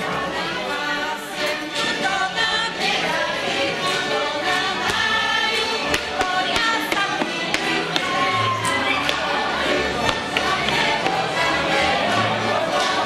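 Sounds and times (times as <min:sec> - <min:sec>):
group singing a folk song: 0:00.0 - 0:13.0.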